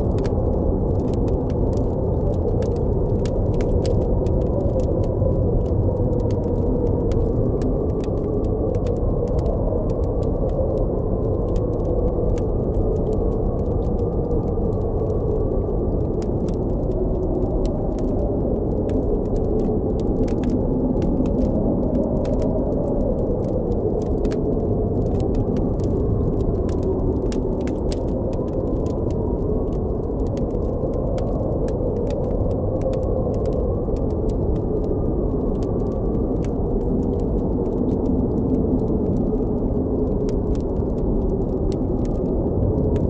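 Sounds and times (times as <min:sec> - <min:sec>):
blizzard wind howling: 0:00.0 - 0:43.0
campfire crackling and popping: 0:00.0 - 0:43.0.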